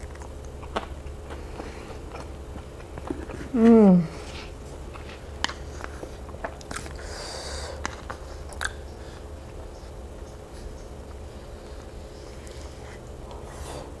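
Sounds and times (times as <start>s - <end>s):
close chewing: 0.0s - 7.1s, 7.8s - 14.0s.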